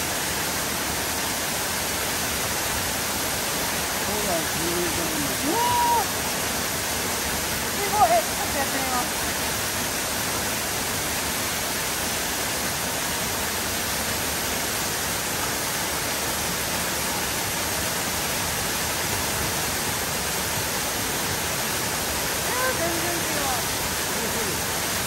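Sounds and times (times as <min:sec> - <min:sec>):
waterfall rushing onto rock: 0:00.0 - 0:25.0.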